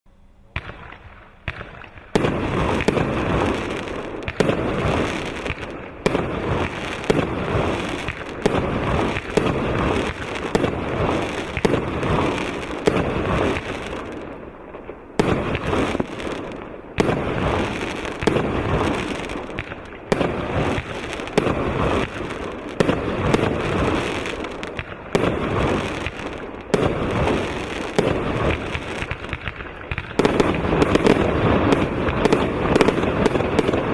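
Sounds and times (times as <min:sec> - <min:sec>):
fireworks cake firing: 0:00.6 - 0:33.9.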